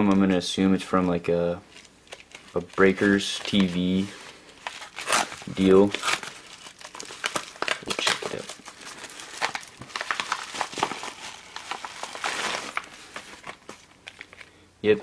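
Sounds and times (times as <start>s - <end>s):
padded mailer crinkling: 0.9s - 14.5s.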